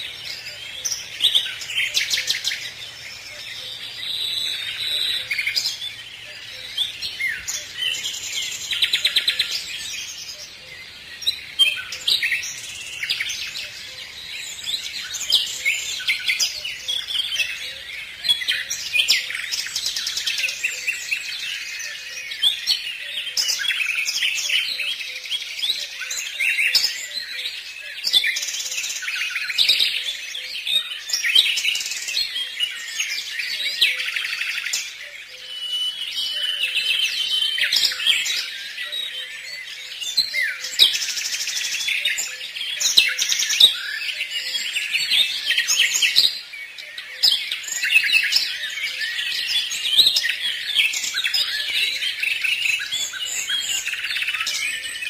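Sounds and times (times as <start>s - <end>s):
small birds chirping chorus: 0.0s - 55.0s.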